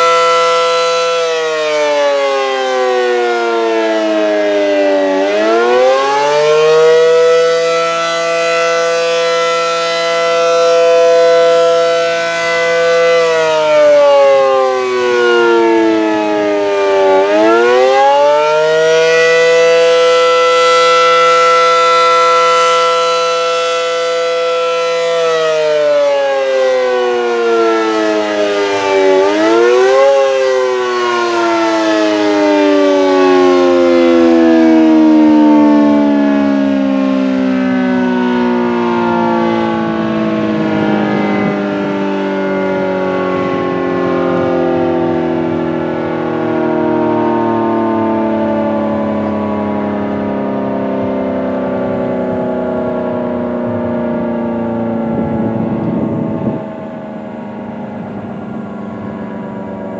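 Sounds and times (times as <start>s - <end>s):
tornado siren winding up: 0.0s - 59.9s.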